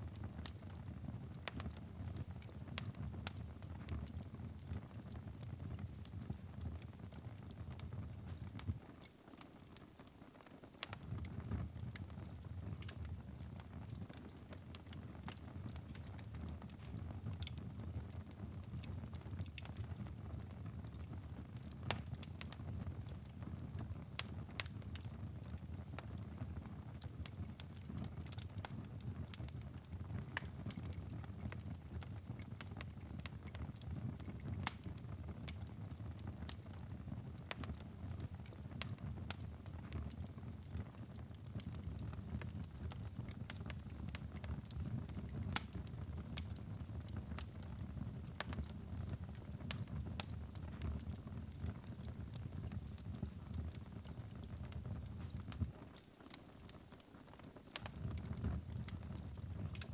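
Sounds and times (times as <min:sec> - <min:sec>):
fire crackling and popping: 0:00.0 - 0:59.9
fire rumbling in fireplace: 0:00.1 - 0:08.8, 0:10.8 - 0:56.8, 0:57.7 - 0:59.9.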